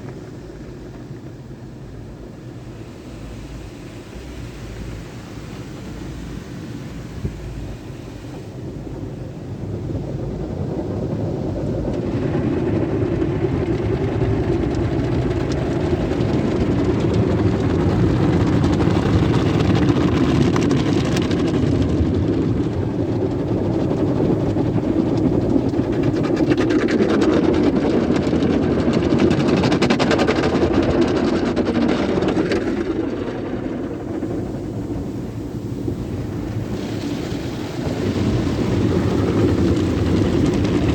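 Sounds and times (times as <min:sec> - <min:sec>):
car wash machinery: 0:00.0 - 0:40.9
car wash water spattering: 0:00.0 - 0:40.9.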